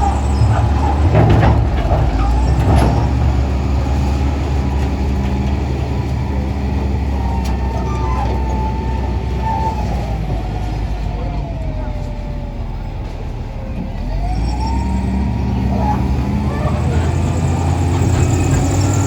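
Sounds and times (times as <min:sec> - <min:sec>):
large engine whine: 0:00.0 - 0:19.0.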